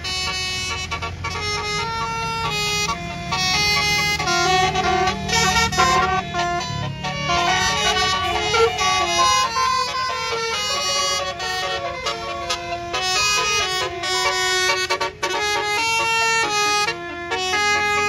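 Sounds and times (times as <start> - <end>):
bus engine rumble: 0.0 - 18.0
musical air horn melody: 0.0 - 18.0.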